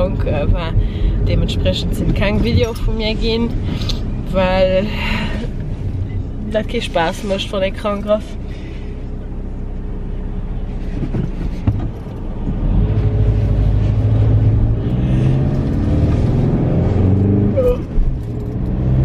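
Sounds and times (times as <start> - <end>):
car engine: 0.0 - 19.0
road noise inside car: 0.0 - 19.0.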